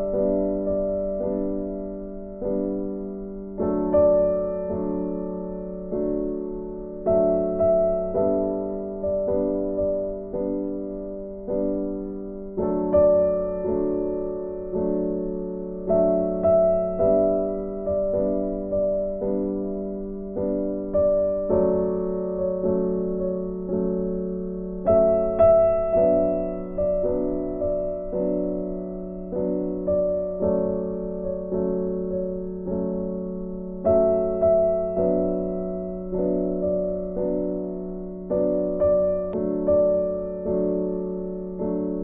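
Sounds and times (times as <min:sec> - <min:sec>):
slow piano music: 0:00.0 - 0:42.0.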